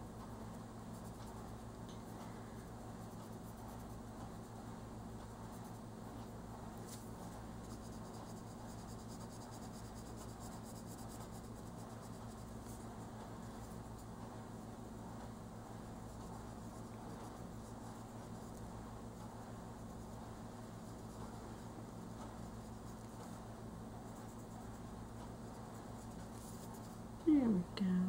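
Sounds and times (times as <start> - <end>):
steady low hum: 0.0 - 28.0
colour pencil scratching on paper: 0.4 - 4.6, 5.2 - 14.7, 15.4 - 27.2.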